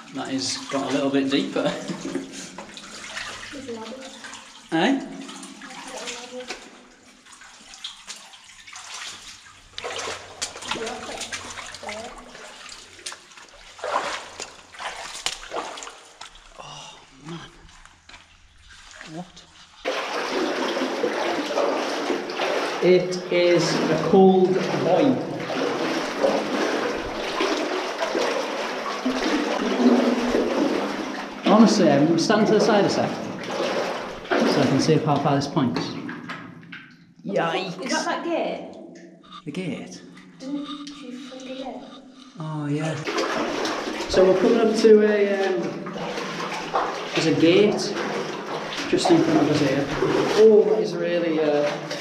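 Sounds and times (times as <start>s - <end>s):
feet wading through water: 0.0s - 37.2s, 40.0s - 52.0s.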